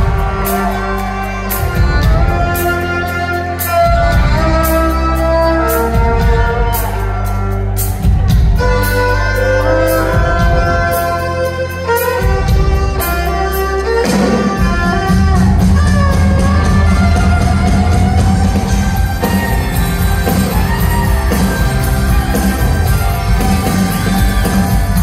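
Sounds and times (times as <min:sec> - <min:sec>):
fiddle long held notes: 0:00.0 - 0:25.0
live rock band playing: 0:00.0 - 0:25.0.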